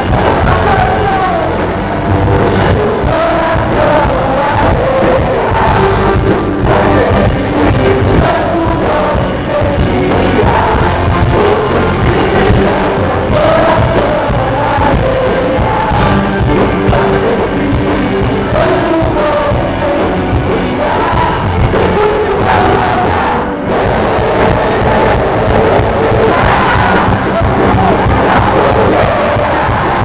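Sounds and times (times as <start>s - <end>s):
live gospel band with singing: 0.0s - 30.0s.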